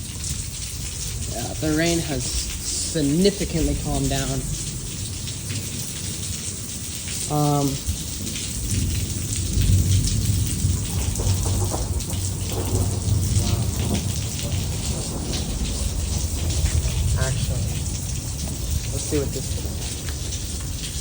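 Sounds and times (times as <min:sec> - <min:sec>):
rain on hard surfaces: 0:00.0 - 0:21.0
rumble of thunder: 0:00.0 - 0:21.0.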